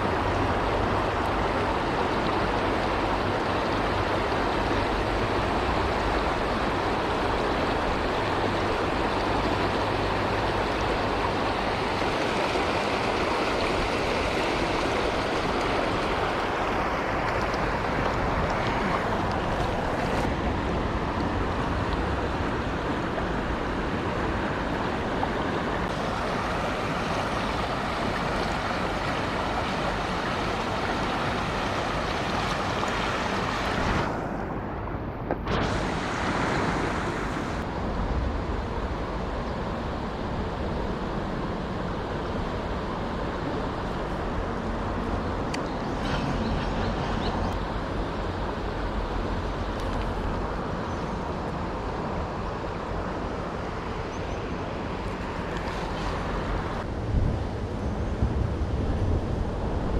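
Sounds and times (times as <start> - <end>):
stream rushing over rocks: 0.0 - 34.4, 35.5 - 37.7, 41.4 - 56.9.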